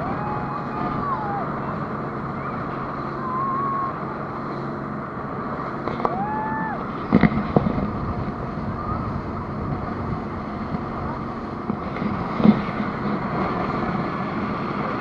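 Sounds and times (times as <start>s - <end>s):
speedboat engine running: 0.0s - 15.0s
wind on microphone: 0.0s - 15.0s.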